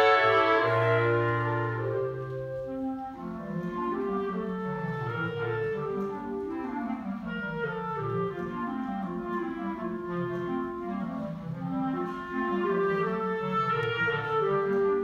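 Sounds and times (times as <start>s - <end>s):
clarinet ensemble playing: 0.0s - 15.0s.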